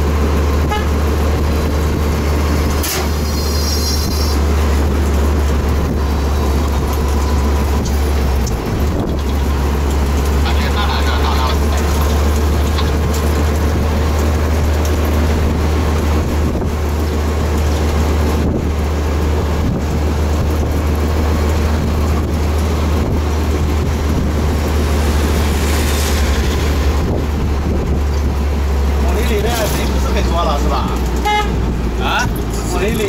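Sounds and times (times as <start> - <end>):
low engine drone: 0.0 - 33.0
road and wind noise: 0.0 - 33.0.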